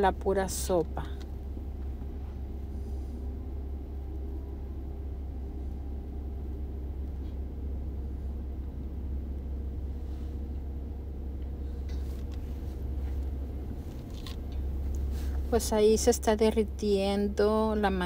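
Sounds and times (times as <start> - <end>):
kitchen background rumble and hum: 0.0 - 18.0.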